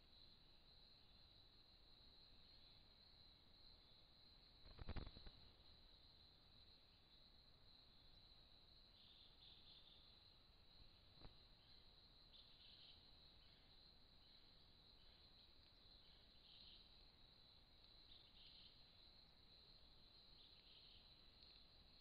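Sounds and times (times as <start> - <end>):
faint insect trilling: 0.0 - 22.0
low hiss: 0.0 - 22.0.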